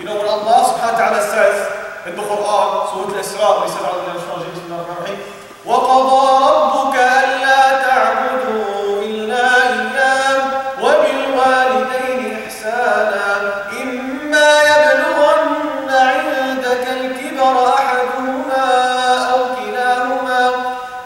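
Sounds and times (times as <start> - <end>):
man chanting: 0.0 - 20.9.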